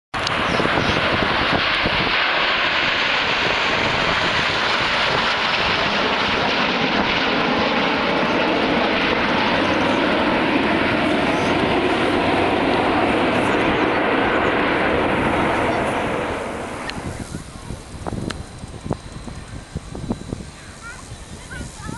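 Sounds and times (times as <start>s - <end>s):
airplane engine noise: 0.2s - 21.9s.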